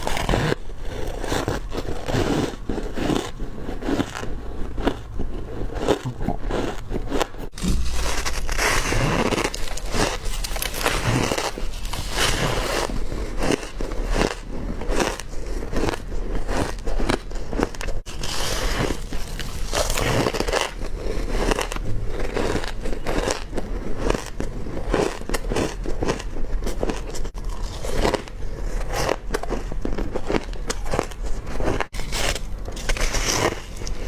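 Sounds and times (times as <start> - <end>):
ice crunching between teeth: 0.0 - 34.0.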